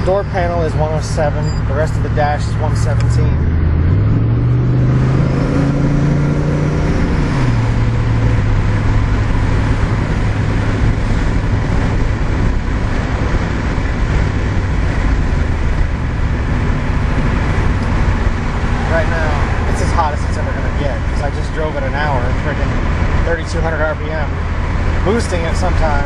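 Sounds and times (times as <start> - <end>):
car engine heard from cabin: 0.0 - 26.0
road and wind noise: 0.0 - 26.0.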